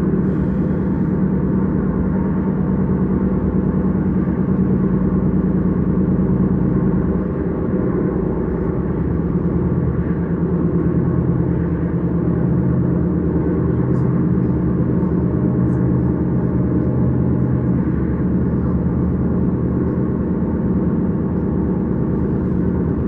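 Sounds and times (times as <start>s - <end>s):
constant train hum: 0.0s - 23.0s
train rumble inside carriage: 0.0s - 23.0s.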